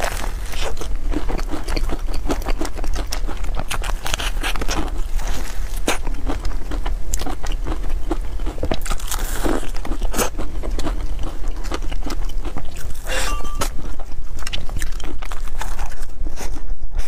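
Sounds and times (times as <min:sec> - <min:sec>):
pastry being bitten and chewed: 0:00.0 - 0:17.0.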